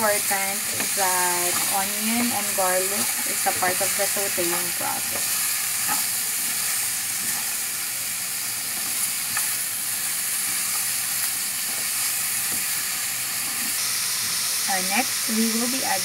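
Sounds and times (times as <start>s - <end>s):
meat sizzling in a pan: 0.0s - 16.0s
spatula stirring in pan: 0.1s - 13.8s.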